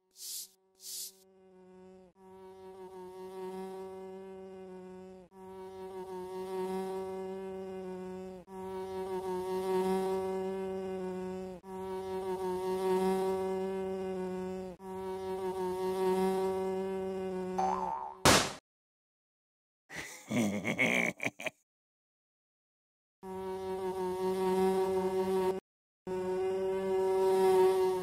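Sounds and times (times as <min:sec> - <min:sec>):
fly buzzing: 0:00.0 - 0:18.3, 0:23.2 - 0:28.0.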